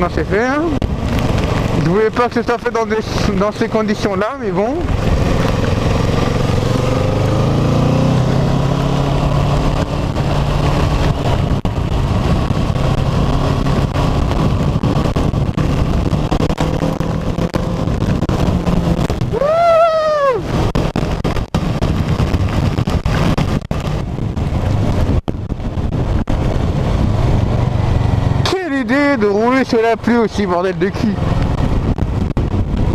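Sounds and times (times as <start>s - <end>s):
motorcycle engine running: 0.0s - 32.9s
wet road noise: 0.0s - 32.9s
wind rushing: 0.0s - 32.9s.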